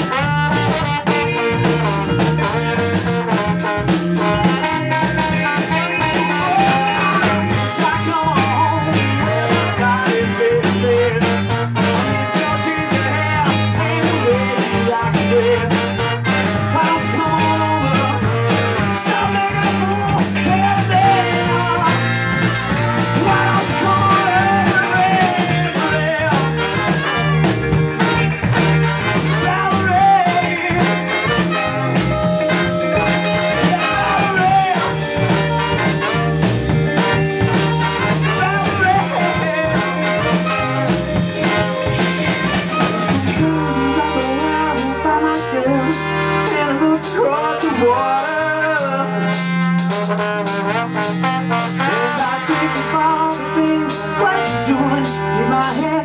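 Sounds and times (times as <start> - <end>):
person singing: 0.0 - 36.3, 36.9 - 50.1, 51.6 - 56.0
live ska-punk band playing: 0.0 - 56.0.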